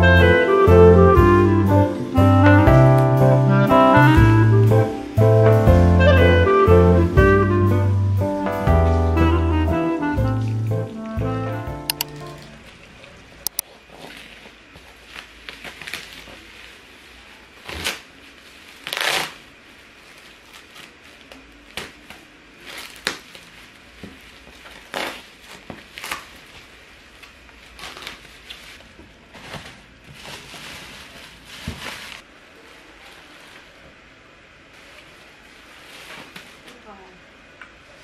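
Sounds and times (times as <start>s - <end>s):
bubble wrap crinkling: 0.0s - 12.7s, 13.5s - 34.0s, 34.6s - 37.0s.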